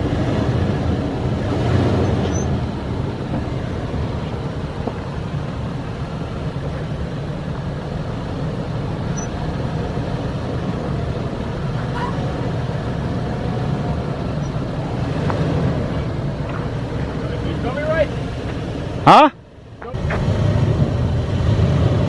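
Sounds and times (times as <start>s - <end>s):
engine and drivetrain rumble: 0.0s - 22.0s.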